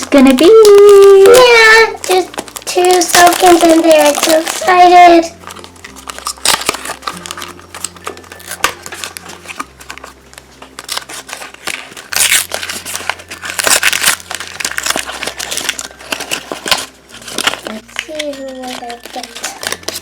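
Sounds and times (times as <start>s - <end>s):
plastic packaging crinkling and tearing: 0.0s - 20.0s.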